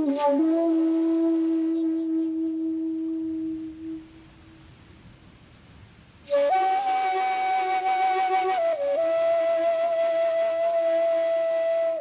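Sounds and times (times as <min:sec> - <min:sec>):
slow flute-like melody: 0:00.0 - 0:04.6, 0:06.3 - 0:12.0.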